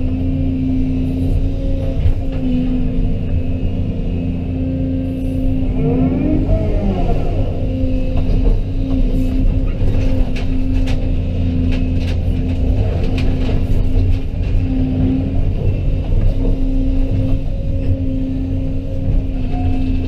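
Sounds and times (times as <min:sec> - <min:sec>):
diesel engine of heavy equipment: 0:00.0 - 0:20.0.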